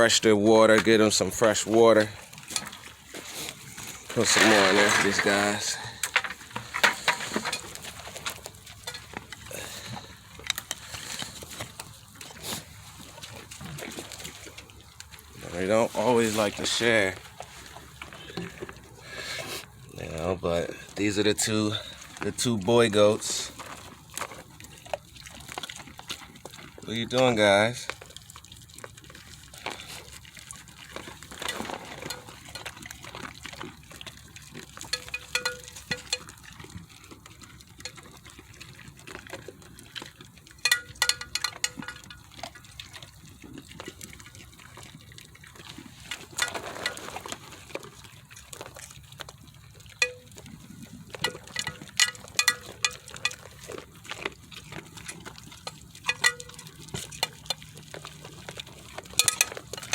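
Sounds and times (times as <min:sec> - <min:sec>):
water sloshing and splashing: 0:00.0 - 0:59.9.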